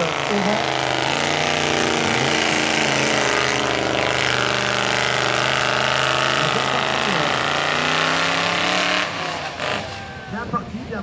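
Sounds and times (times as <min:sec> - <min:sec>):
truck engine running hard: 0:00.0 - 0:11.0.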